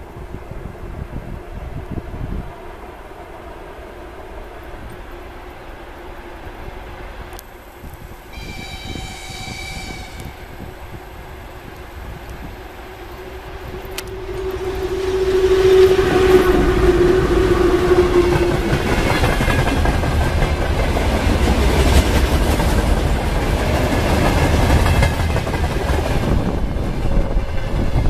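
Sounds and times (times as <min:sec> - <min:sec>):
electric locomotive whine: 0:00.0 - 0:28.0.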